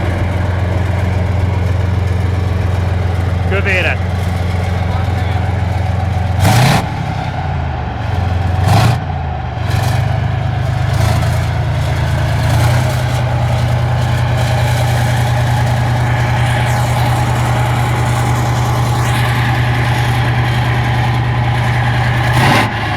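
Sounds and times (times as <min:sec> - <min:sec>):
diesel engine idling: 0:00.0 - 0:22.9
diesel engine throttle blips: 0:00.0 - 0:22.9.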